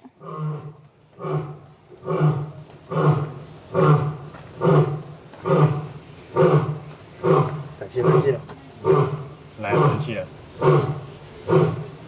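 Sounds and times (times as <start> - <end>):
lion roaring: 0.2 - 12.0.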